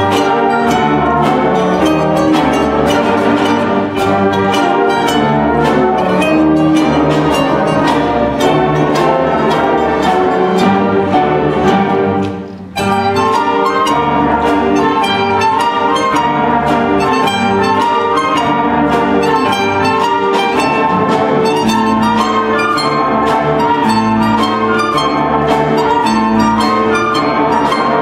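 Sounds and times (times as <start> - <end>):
brass orchestra playing dance music: 0.0 - 28.0
double basses: 0.0 - 28.0.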